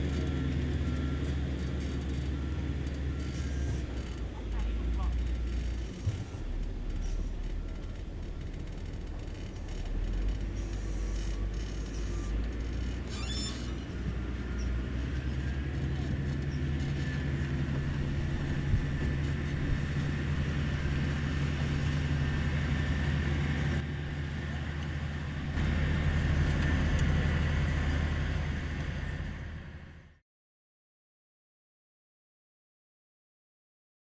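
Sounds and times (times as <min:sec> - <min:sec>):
diesel engine running: 0:00.0 - 0:30.2.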